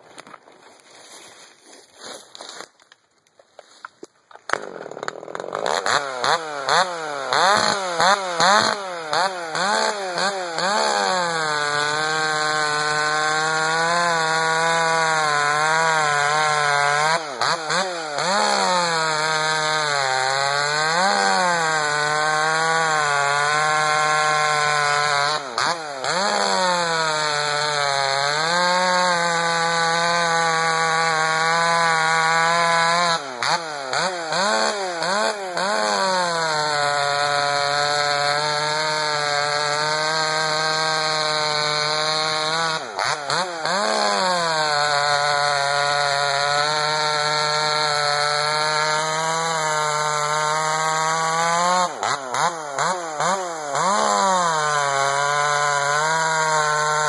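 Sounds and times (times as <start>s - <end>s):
chainsaw revving and cutting wood: 4.3s - 57.0s.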